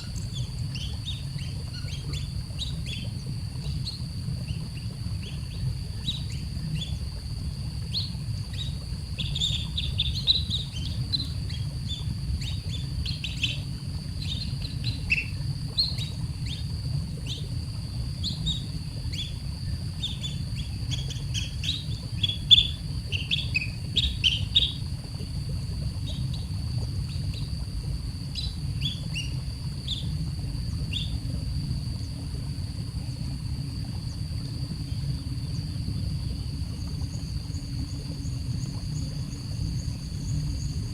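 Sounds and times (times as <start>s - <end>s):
low steady hum: 0.0s - 40.9s.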